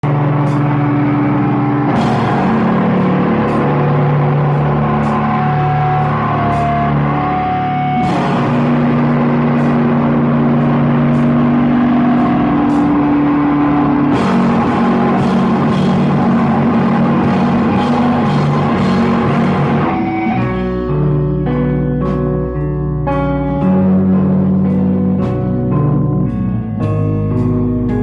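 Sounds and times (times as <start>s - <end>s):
rock music with guitar and drums: 0.0s - 28.0s.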